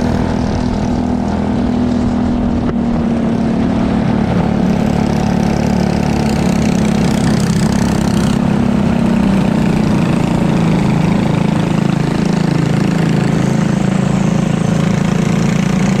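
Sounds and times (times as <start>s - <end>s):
kart engine running: 0.0s - 16.0s.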